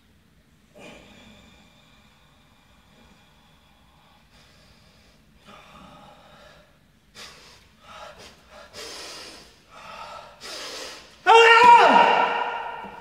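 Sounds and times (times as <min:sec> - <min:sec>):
man breathing forcefully: 0:00.8 - 0:11.2.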